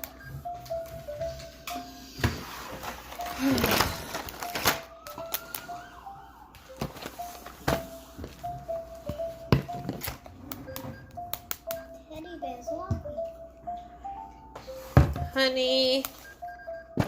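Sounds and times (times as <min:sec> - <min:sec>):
simple tune of high notes: 0:00.0 - 0:17.0.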